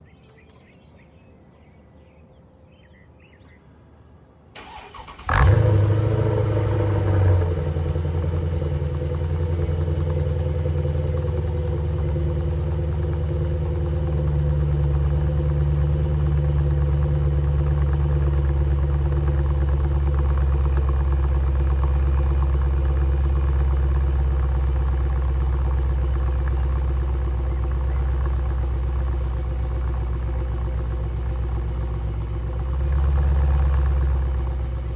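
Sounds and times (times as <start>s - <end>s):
car engine starting and idling: 4.5s - 34.9s.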